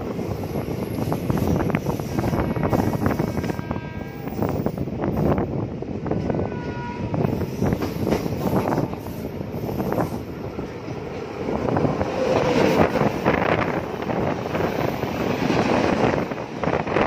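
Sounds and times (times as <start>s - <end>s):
rushing air: 0.0s - 17.0s
train passing at speed: 0.0s - 17.0s
wind buffeting microphone: 0.0s - 17.0s.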